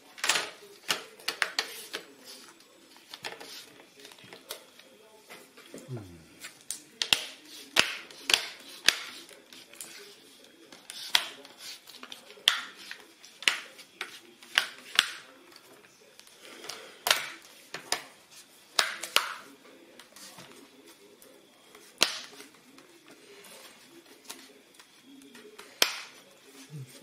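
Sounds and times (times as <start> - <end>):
faint tv voices: 0.0 - 27.0.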